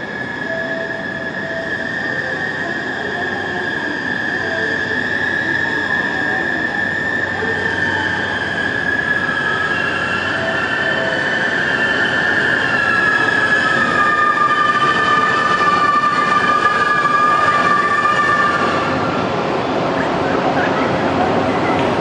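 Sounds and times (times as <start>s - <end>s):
tone sliding lower: 0.0s - 18.7s
train rumble: 0.0s - 22.0s.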